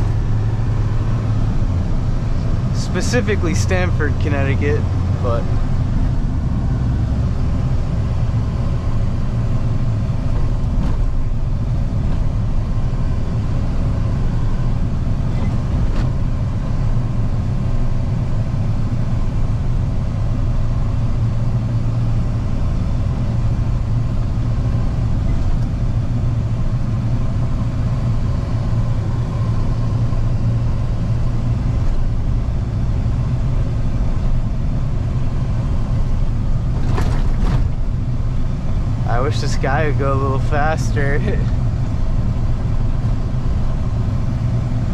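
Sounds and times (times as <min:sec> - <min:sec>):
road rumble: 0:00.0 - 0:44.9
truck engine drone: 0:00.0 - 0:44.9.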